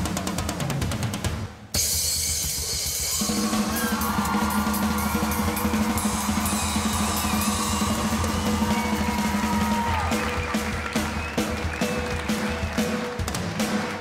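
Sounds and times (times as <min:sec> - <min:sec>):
drum kit played hard: 0:00.0 - 0:14.0
backing track: 0:02.7 - 0:14.0.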